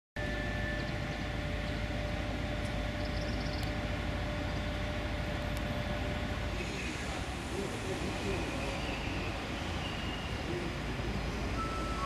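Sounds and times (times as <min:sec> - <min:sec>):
low station rumble: 0:00.2 - 0:12.0.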